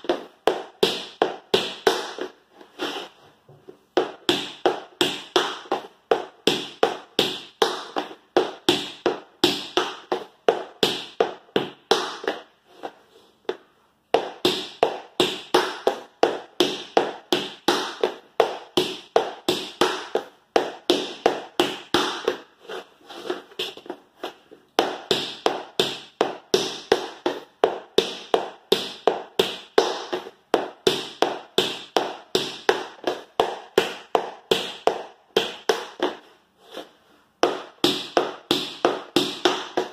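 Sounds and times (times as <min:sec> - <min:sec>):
tap shoes on wooden floor: 0:00.0 - 0:39.9.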